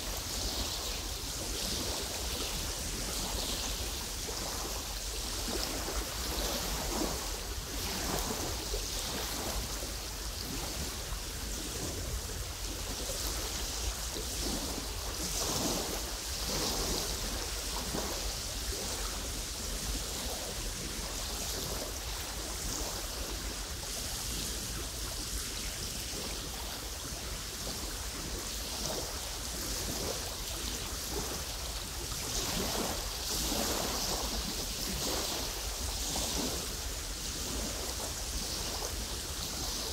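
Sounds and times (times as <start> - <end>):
small waves lapping: 0.0 - 39.9
wind rumble on microphone: 0.0 - 39.9.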